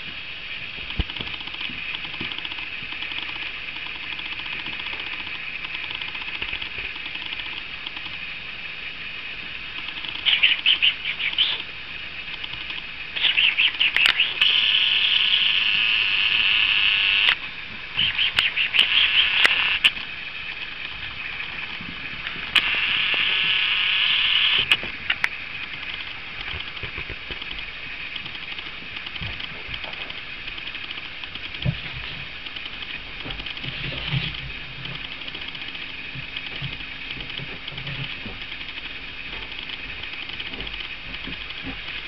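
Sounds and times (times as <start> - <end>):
sharp clicks: 0.9 - 8.2, 9.8 - 11.7, 12.3 - 17.4, 18.0 - 21.0, 21.6 - 31.8, 32.4 - 33.7, 34.8 - 41.7.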